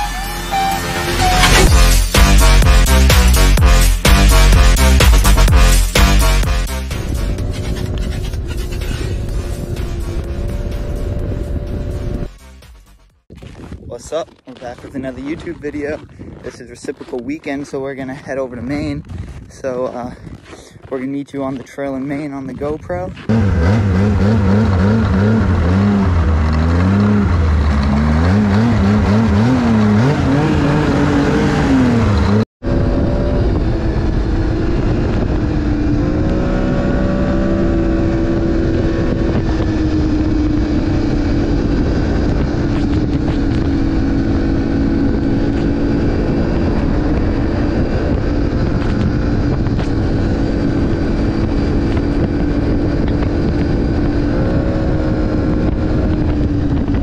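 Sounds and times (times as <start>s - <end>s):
snowmobile engine revving: 0.0s - 12.4s, 23.2s - 56.8s.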